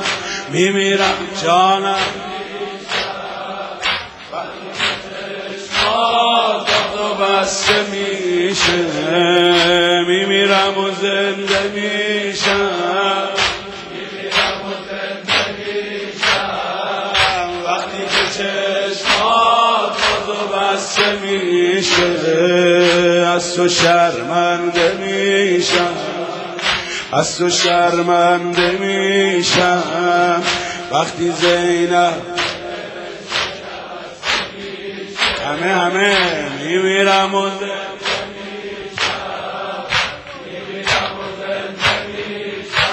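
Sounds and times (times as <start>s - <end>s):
men chanting a lament: 0.0s - 42.9s
rhythmic chest-beating: 0.0s - 42.9s.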